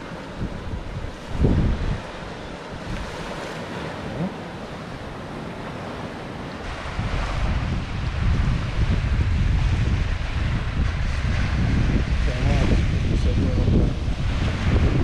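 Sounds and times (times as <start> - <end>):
sea surf washing on shore: 0.0 - 15.0
wind buffeting microphone: 0.0 - 15.0.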